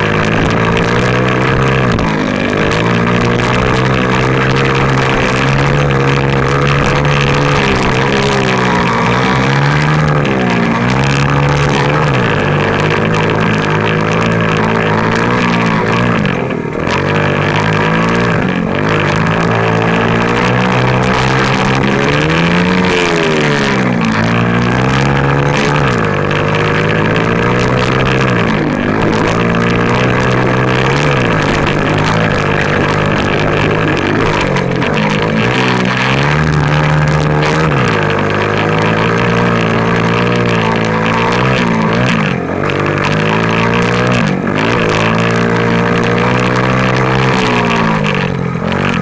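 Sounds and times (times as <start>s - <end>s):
small motorbike engine revving: 0.0s - 49.0s.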